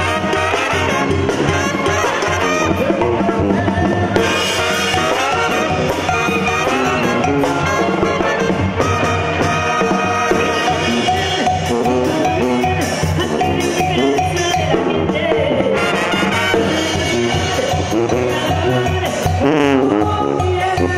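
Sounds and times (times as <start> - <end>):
brass band playing: 0.0 - 20.9.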